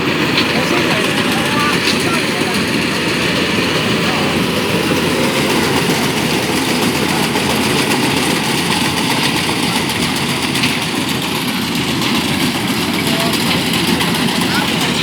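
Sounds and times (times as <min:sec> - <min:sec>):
harvesting machine engine running: 0:00.0 - 0:15.0
mechanical clatter and rush: 0:00.0 - 0:15.0.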